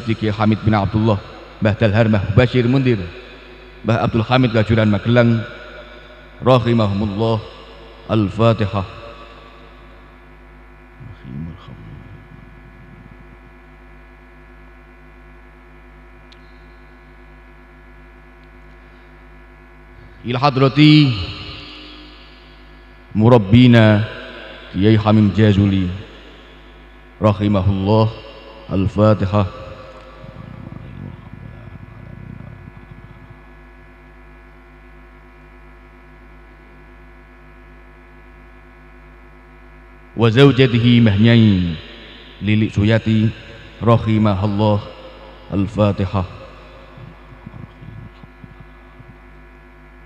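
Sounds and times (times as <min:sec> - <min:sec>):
electrical hum and buzz: 0:00.0 - 0:50.0
faint low murmur: 0:00.0 - 0:50.0.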